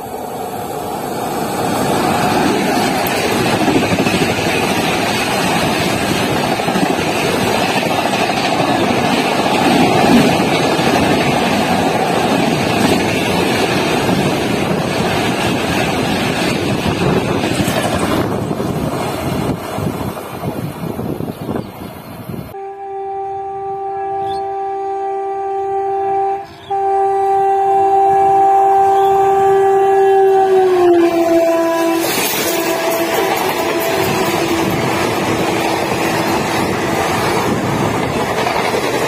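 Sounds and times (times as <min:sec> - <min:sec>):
train rushing past: 0:00.0 - 0:23.1, 0:26.1 - 0:39.0.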